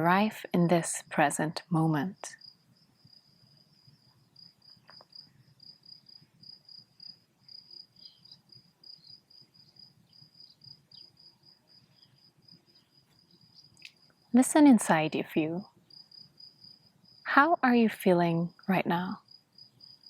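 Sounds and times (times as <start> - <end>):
cricket chirping: 0.6 - 17.6, 18.6 - 20.0.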